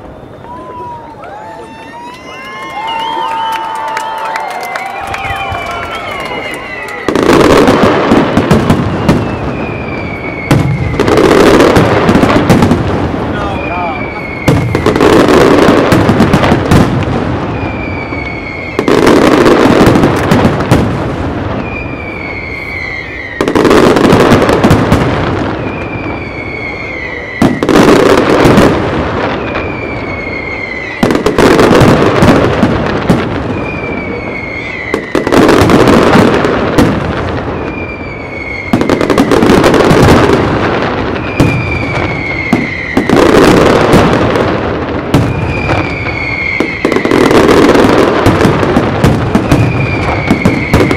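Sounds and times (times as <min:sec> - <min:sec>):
firework whistle: 0:00.0 - 0:50.9
fireworks bangs and crackle: 0:00.0 - 0:50.9.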